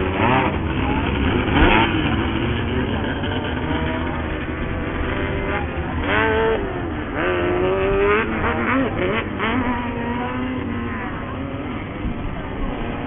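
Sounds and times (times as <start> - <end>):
buggy engines revving: 0.0 - 13.0.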